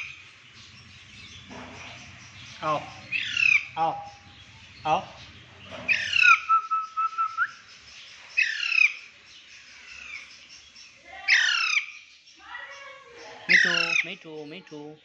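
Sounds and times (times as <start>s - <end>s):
parrot calling: 0.0s - 14.8s.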